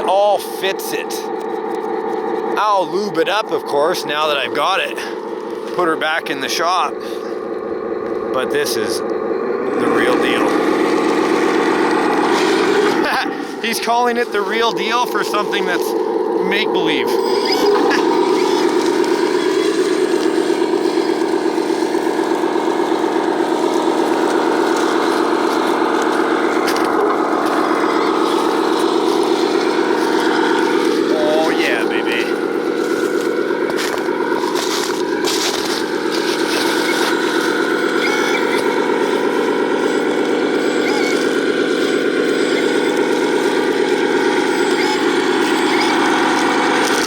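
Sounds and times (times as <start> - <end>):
toy truck motor hum: 0.0 - 47.0.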